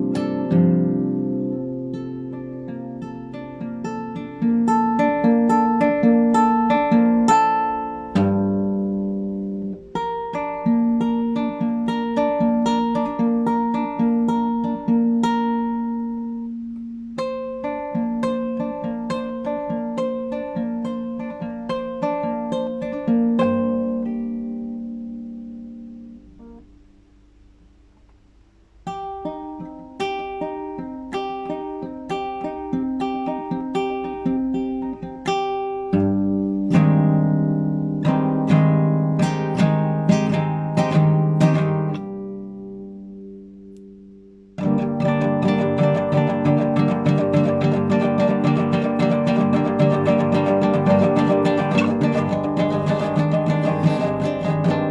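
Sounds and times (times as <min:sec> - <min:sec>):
classical guitar plucking: 0:00.0 - 0:54.9.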